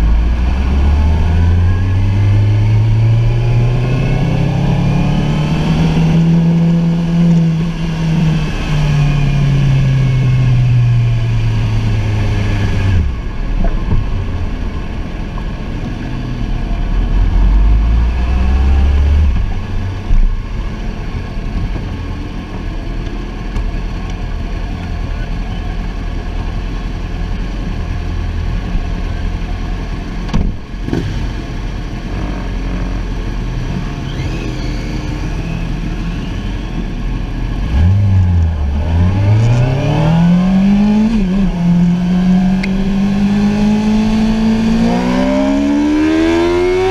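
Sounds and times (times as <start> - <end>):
motorcycle engine at speed: 0.0 - 46.9.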